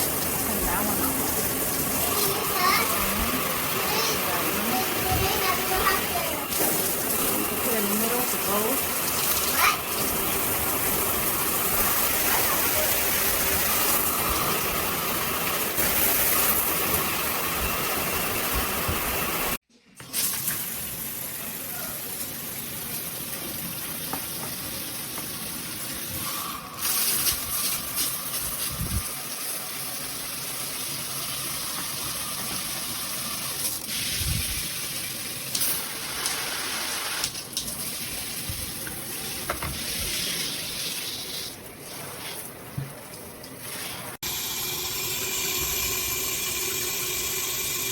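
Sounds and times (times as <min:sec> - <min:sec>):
shower water spraying: 0:00.0 - 0:47.9.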